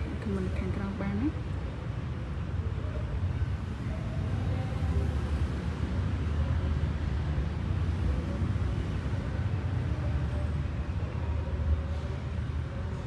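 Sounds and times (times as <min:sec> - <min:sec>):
low room rumble with hiss: 0:00.0 - 0:13.0.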